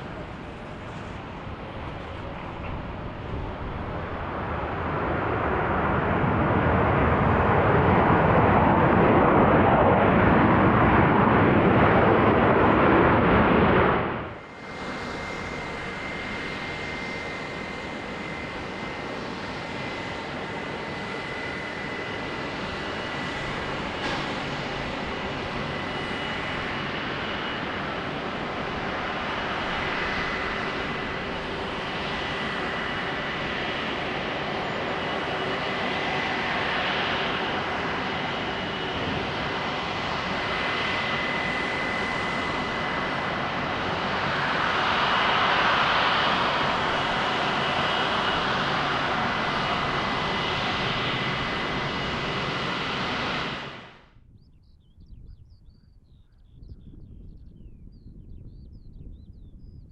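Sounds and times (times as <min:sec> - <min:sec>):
high engine whine: 0:00.0 - 0:54.1
jet engine roar: 0:00.0 - 0:54.2.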